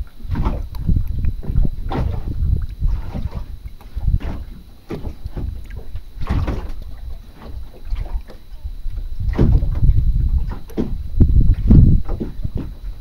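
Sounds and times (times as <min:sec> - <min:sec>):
water splashing against boat hull: 0:00.0 - 0:13.0
wind rumble on microphone: 0:00.0 - 0:13.0.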